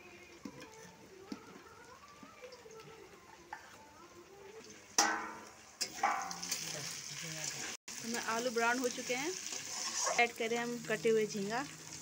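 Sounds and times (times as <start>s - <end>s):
spatula stirring food in pan: 0.0s - 11.0s
vegetables sizzling in oil: 0.0s - 12.0s.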